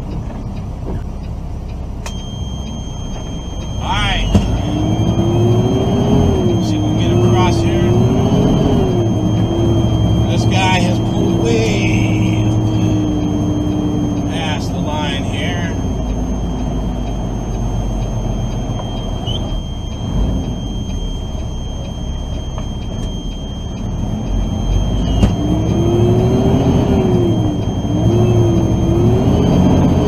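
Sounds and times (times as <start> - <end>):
diesel truck engine rumbling: 0.0 - 30.0.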